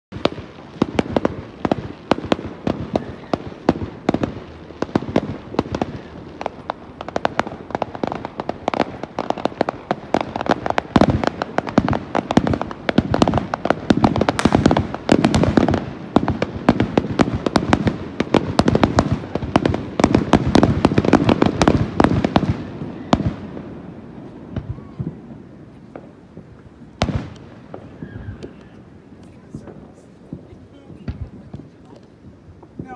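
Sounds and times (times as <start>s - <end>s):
fireworks cracking and banging: 0.1s - 32.9s.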